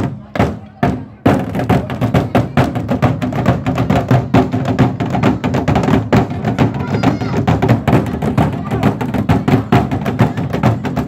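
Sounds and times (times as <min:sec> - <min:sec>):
music with percussive beat: 0:00.0 - 0:11.0.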